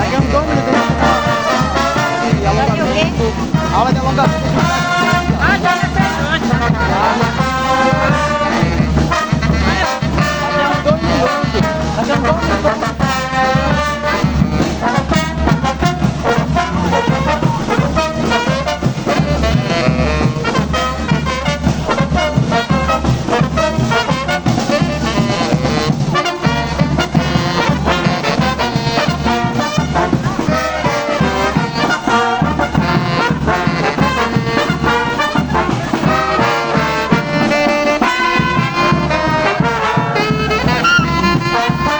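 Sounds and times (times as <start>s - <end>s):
brass orchestra playing: 0.0s - 41.9s.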